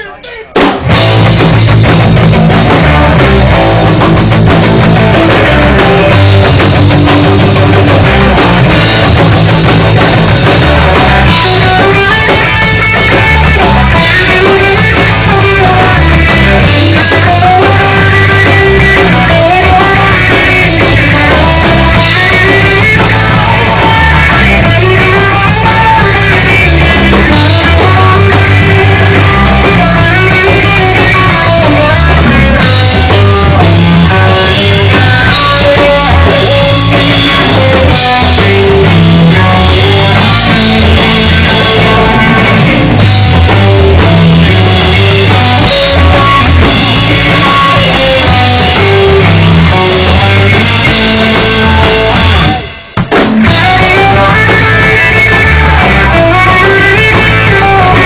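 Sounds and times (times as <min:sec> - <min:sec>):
bass guitar: 0:00.0 - 0:58.0
drum kit: 0:00.0 - 0:58.0
electric guitar melody: 0:00.0 - 0:58.0.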